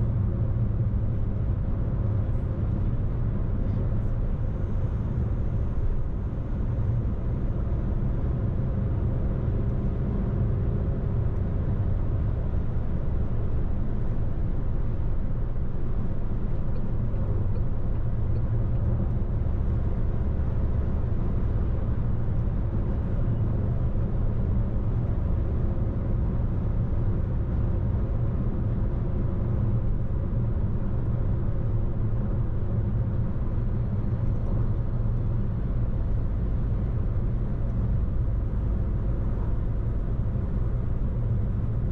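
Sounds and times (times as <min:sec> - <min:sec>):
car driving on road: 0:00.0 - 0:41.9.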